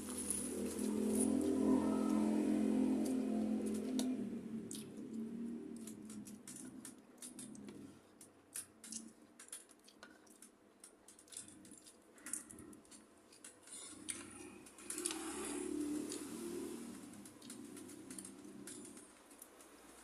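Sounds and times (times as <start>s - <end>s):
chewing crunches: 2.9s - 19.6s.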